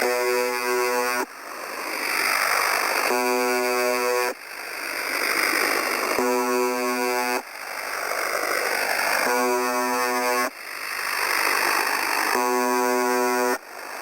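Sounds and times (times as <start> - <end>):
harsh buzz tone: 0.0 - 14.0
radio static hiss: 0.0 - 14.0.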